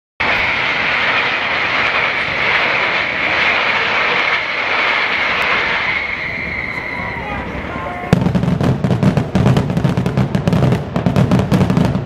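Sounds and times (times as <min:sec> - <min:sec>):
fireworks barrage roar: 0:00.2 - 0:12.0.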